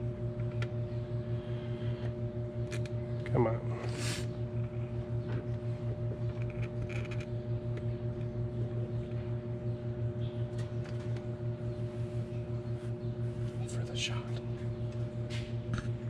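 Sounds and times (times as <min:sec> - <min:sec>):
pulsing low hum: 0:00.0 - 0:16.0.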